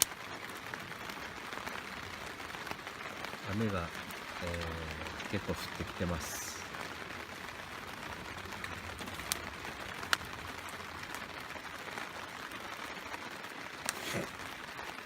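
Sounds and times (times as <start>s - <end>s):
rain on a plastic tarp: 0.0s - 15.0s.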